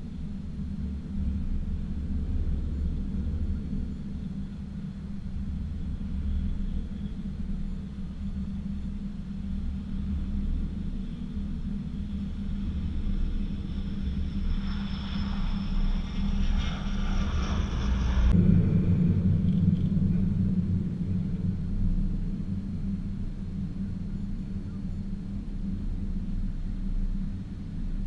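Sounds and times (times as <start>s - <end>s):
aircraft engine rumble: 0.0s - 28.0s
high turbine whine: 0.0s - 28.0s.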